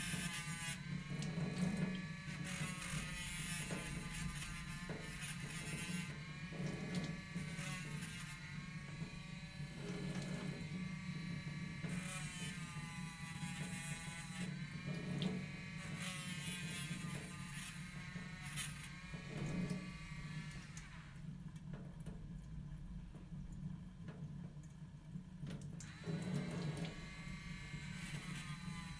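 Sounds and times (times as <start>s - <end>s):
electric motor humming: 0.0s - 21.2s, 25.8s - 28.9s.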